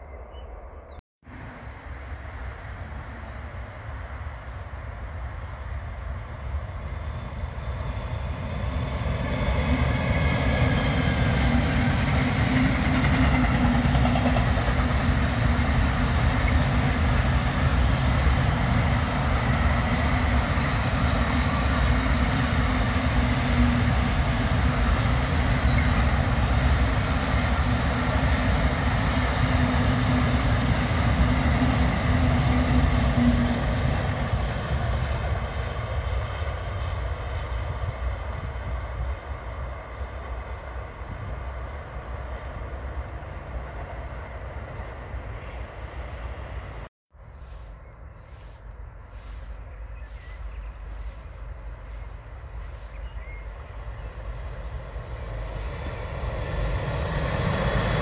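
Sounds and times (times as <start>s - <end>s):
freight train wheels rumbling: 1.3s - 58.0s.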